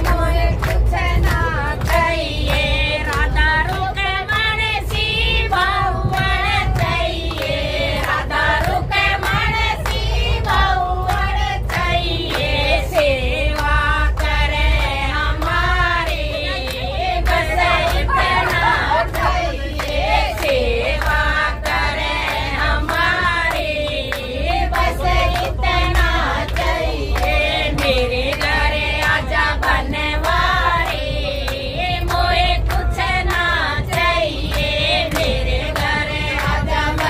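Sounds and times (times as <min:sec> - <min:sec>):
hand claps: 0:00.0 - 0:37.0
train rumble: 0:00.0 - 0:37.0
women and children singing: 0:00.0 - 0:37.0.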